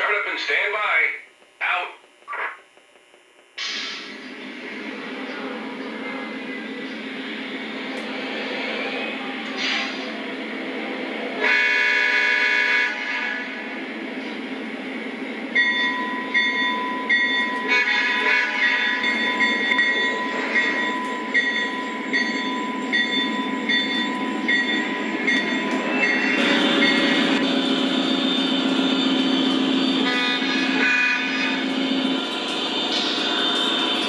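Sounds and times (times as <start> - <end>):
model locomotive diesel rumble: 4.4 - 34.0.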